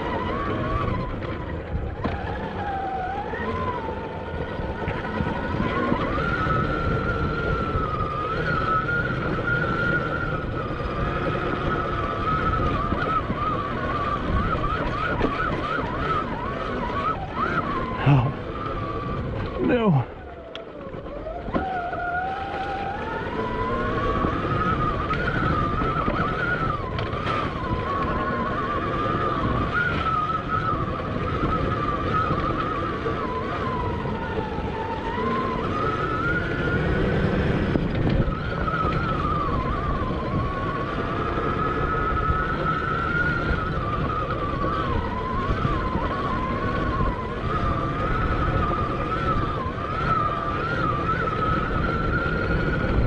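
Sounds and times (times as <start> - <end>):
electric motorbike motor whining: 0.0 - 53.0
wind rumble on microphone: 0.0 - 53.0.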